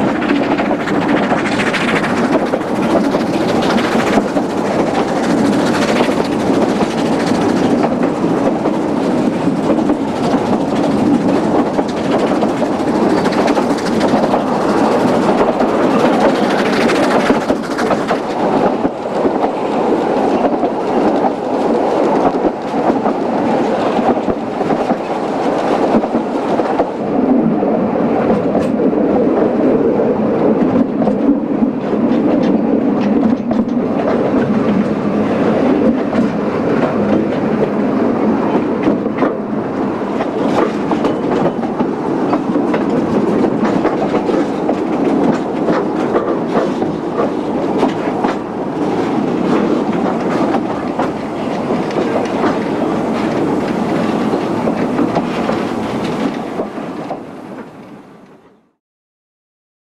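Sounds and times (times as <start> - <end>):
clickety-clack over rail joints: 0.0 - 58.7
train wheels rumbling on rails: 0.0 - 58.8.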